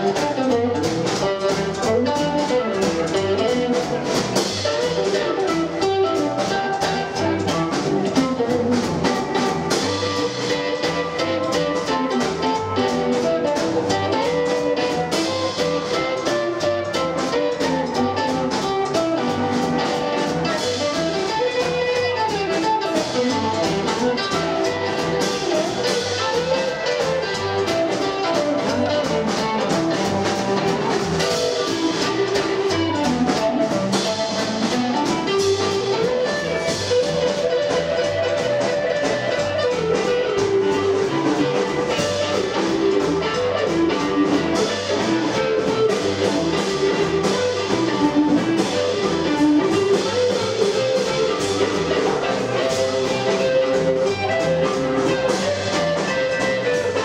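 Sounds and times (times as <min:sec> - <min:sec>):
drum kit: 0:00.0 - 0:57.0
electric guitar: 0:00.0 - 0:57.0
upright double bass: 0:00.0 - 0:57.0.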